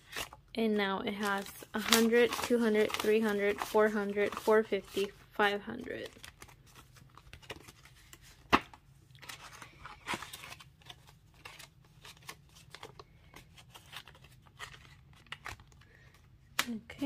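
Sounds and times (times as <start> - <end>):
banknotes and plastic rustling: 1.1 - 16.4.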